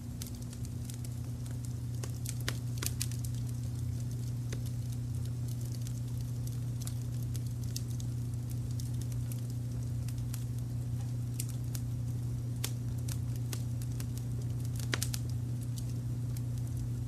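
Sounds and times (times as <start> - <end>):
fire popping and snapping: 0.0 - 17.0
low rumble of fire: 0.0 - 17.0.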